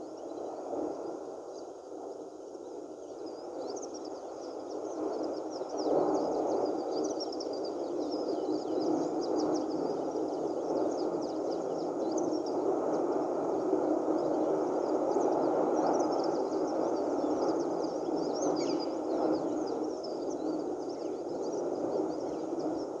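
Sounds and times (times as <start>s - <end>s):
small birds chirping: 2.8s - 23.0s.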